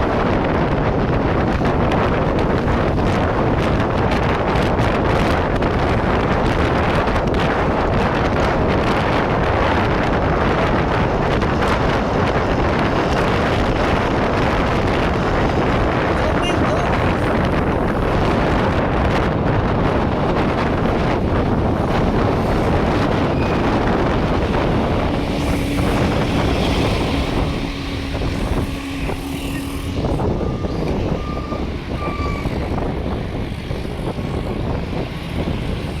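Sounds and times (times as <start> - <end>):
bus diesel engine growling: 0.0 - 36.0.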